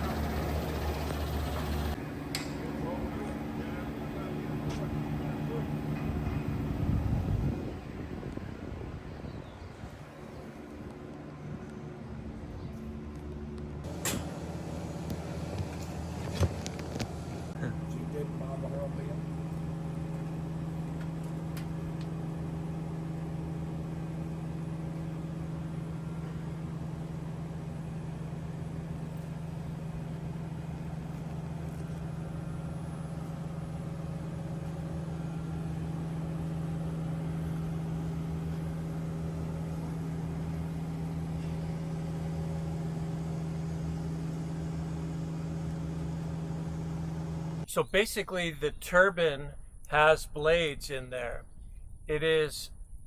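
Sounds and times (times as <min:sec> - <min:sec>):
machinery drone: 0:00.0 - 0:52.7.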